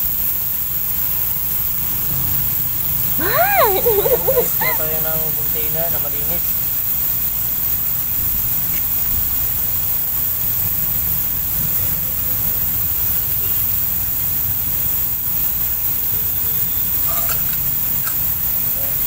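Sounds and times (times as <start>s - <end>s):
constant hiss: 0.0s - 19.0s.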